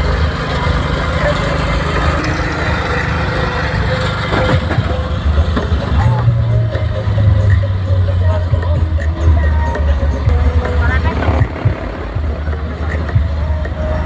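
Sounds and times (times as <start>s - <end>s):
street noise: 0.0s - 14.0s
vehicle engine running: 0.0s - 14.0s.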